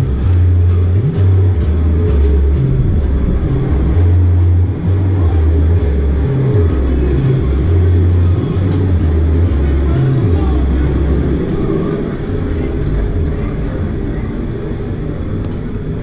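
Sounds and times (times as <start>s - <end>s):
loud music with deep bass: 0.0s - 16.0s.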